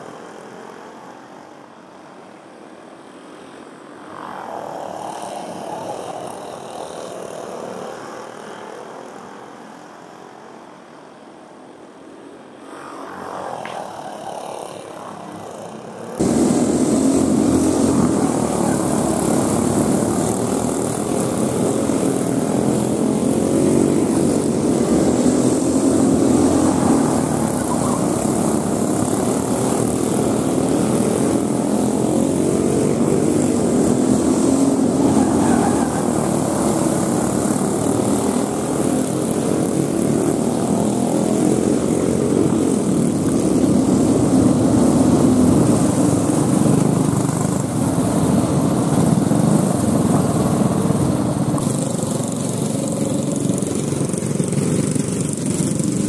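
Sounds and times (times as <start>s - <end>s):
go-kart engines buzzing: 0.0s - 10.9s, 12.0s - 56.0s.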